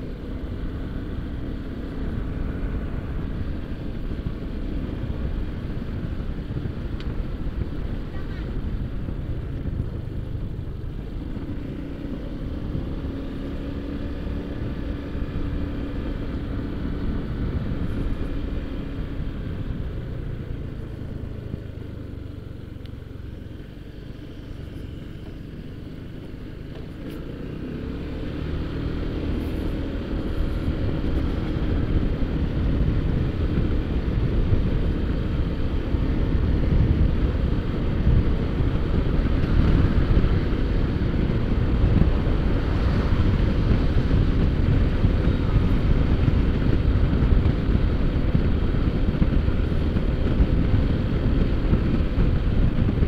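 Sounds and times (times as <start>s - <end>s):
road noise: 0.0s - 53.0s
scooter engine running: 0.0s - 53.0s.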